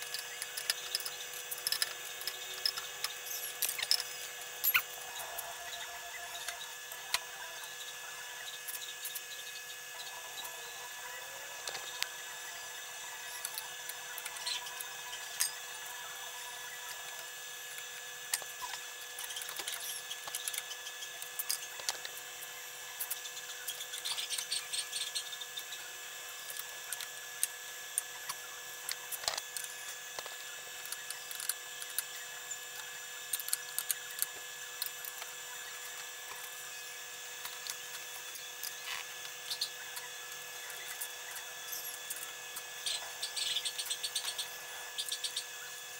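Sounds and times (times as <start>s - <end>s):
steady high-pitched hum: 0.0s - 45.9s.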